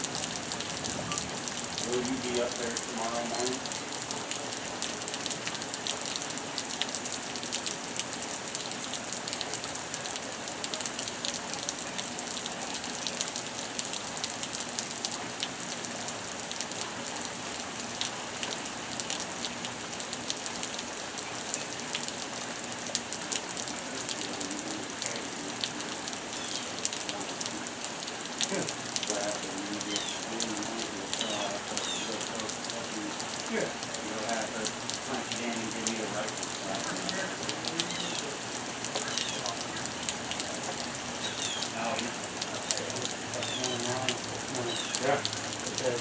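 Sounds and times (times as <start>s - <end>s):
rain falling: 0.0s - 46.0s.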